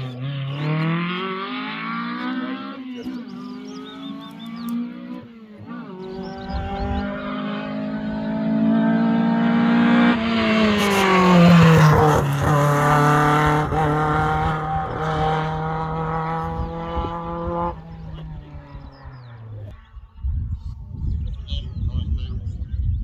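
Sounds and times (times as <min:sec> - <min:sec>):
race car engine passing: 0:00.0 - 0:20.2.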